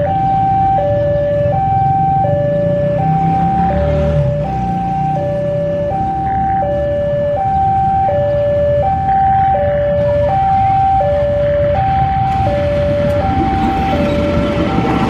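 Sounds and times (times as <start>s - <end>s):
diesel locomotive rumble: 0.0s - 15.0s
level crossing alarm two-tone: 0.0s - 15.0s.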